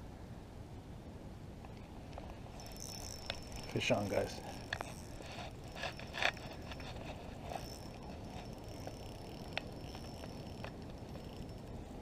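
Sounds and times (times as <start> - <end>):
outdoor background noise: 0.0 - 12.0
fishing reel winding: 2.2 - 11.8.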